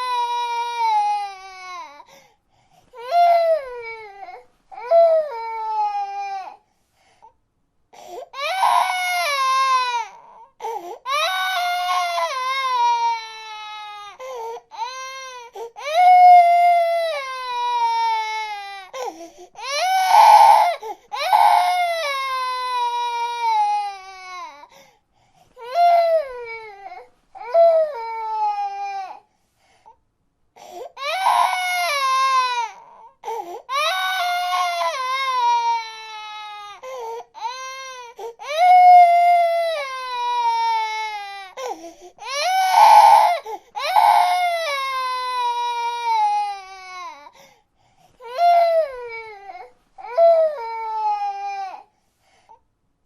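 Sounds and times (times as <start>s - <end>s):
infant crying: 0.0s - 2.2s, 2.9s - 6.6s, 8.0s - 24.8s, 25.6s - 29.3s, 30.6s - 47.5s, 48.2s - 51.9s.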